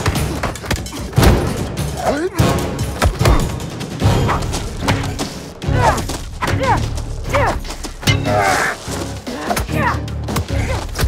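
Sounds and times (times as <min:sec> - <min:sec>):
action music score: 0:00.0 - 0:11.0.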